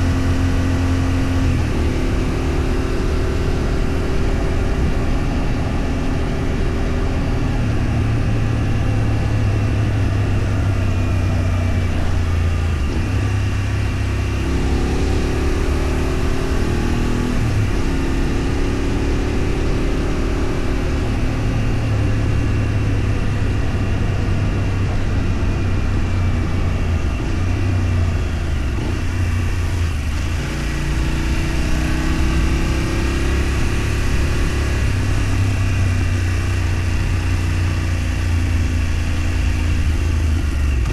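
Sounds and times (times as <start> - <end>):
road and wind noise: 0.0 - 40.9
vehicle engine changing pitch: 0.0 - 40.9.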